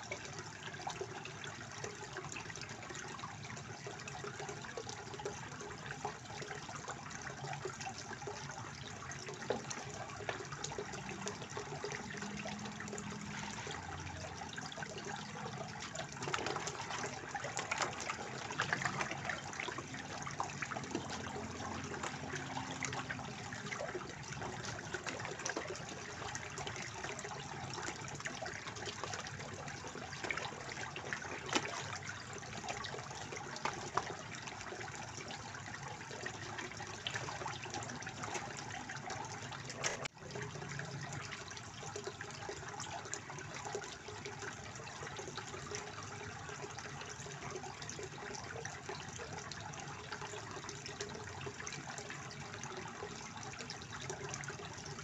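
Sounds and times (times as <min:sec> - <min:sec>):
fountain water splashing into pond: 0:00.0 - 0:55.0.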